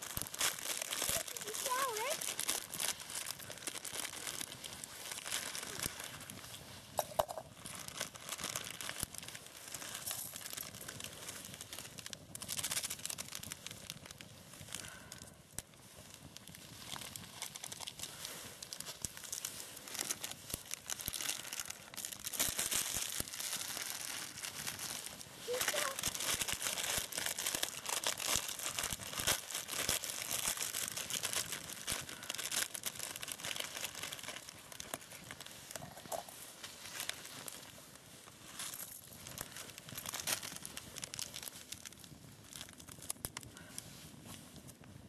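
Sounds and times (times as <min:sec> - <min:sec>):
plastic wrapper crinkling and tearing: 0:00.0 - 0:44.9.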